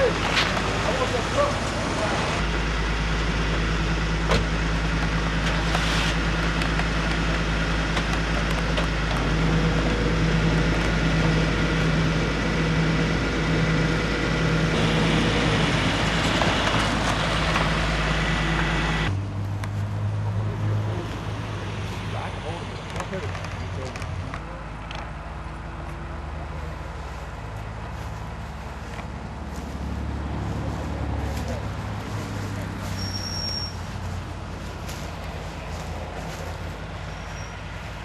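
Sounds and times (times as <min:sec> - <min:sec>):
car engines rumbling: 0:00.0 - 0:38.0.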